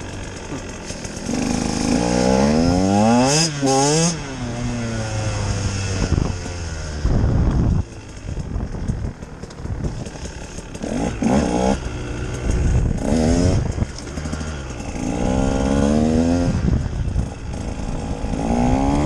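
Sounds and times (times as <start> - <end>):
two-stroke engine accelerating: 0.0 - 19.0.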